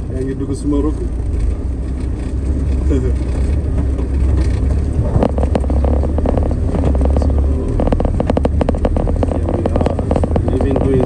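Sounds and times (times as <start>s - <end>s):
car engine and road rumble: 0.0s - 11.0s
fast rattling clicks: 1.3s - 11.0s.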